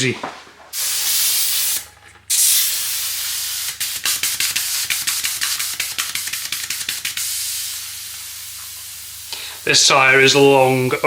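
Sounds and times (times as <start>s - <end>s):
air hissing through tyre valve: 0.8s - 11.0s.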